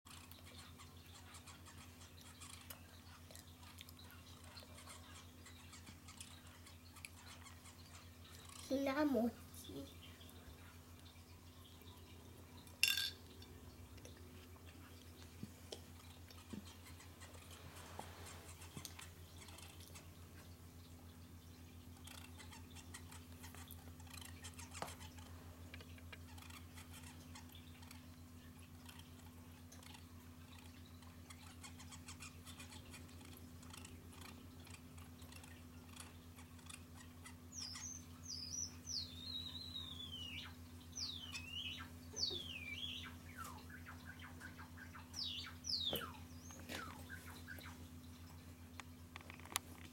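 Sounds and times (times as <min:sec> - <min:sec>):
finch singing: 0:00.1 - 0:49.9
low steady hum: 0:00.1 - 0:49.9.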